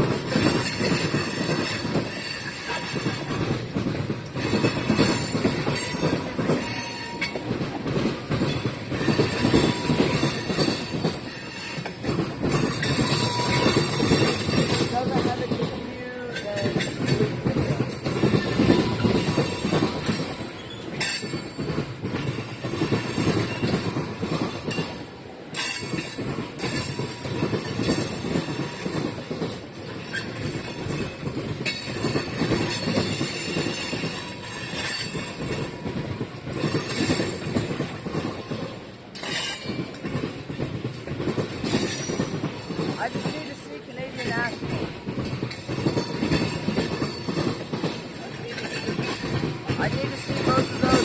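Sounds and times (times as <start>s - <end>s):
train wheels clacking on rails: 0.0s - 51.0s.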